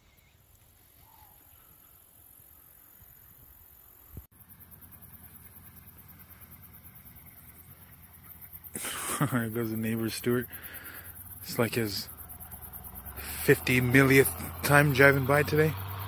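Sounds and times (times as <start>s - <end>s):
open-air evening ambience: 0.0s - 16.0s.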